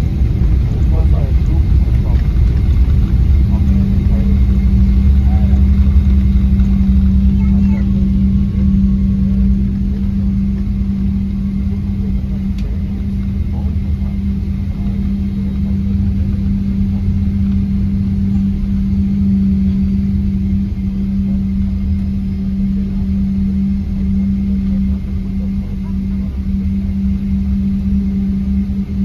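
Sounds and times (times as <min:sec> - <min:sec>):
jet engines at low power: 0:00.0 - 0:29.0
plane rolling rumble: 0:00.0 - 0:29.0.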